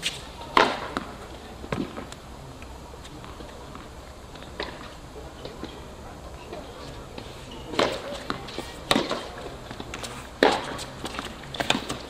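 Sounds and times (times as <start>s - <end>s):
tennis ball hits and bounces: 0.0s - 2.2s, 3.2s - 5.9s, 6.5s - 12.0s.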